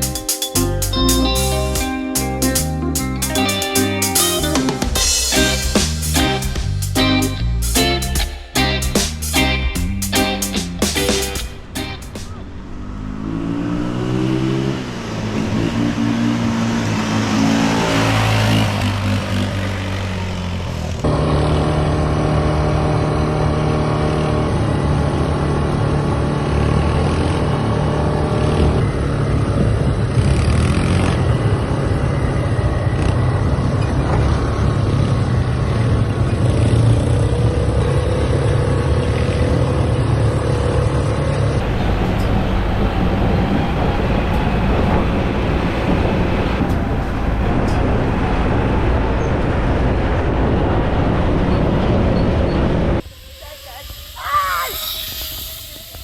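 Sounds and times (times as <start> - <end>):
road noise: 0.0 - 56.0
vehicle engine revving: 3.1 - 53.1.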